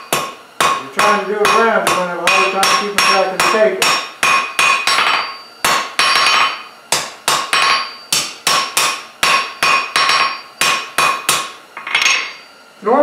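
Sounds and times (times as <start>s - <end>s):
anvil ringing: 0.0s - 12.6s
hammer striking hot steel: 0.0s - 12.6s.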